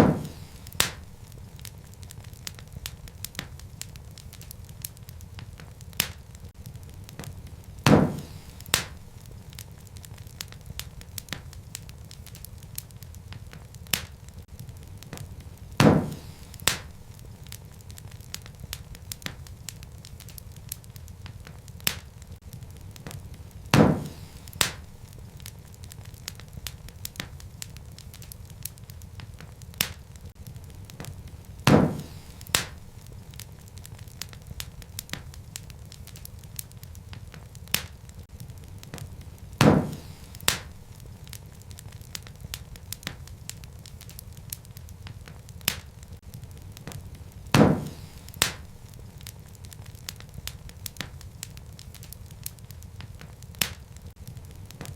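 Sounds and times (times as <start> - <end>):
loud pops from fire: 0.0 - 54.9
wood fire crackling: 0.0 - 54.9.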